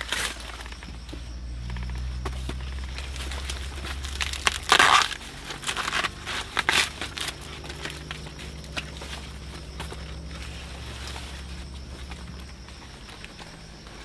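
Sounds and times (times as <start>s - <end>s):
dry corn stalks crunching: 0.0s - 14.0s.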